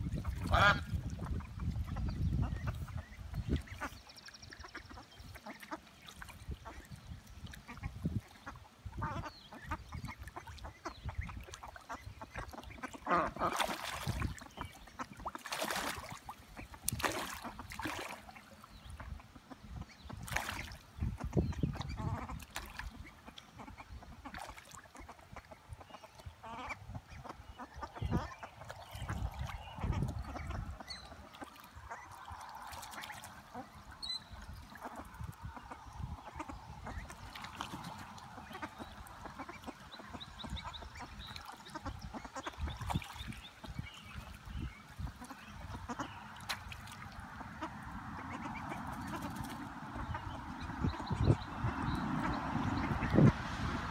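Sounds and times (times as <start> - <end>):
ducks quacking: 0.0 - 53.8
ducklings splashing in water: 0.0 - 53.9.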